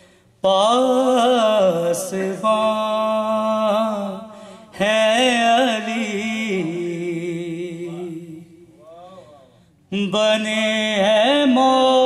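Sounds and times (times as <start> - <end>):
man chanting: 0.5 - 12.0.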